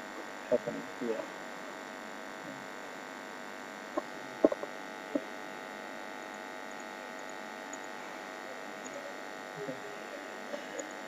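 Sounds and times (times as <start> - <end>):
electrical hum and hiss: 0.0 - 11.0
faint steady tones: 0.0 - 11.0.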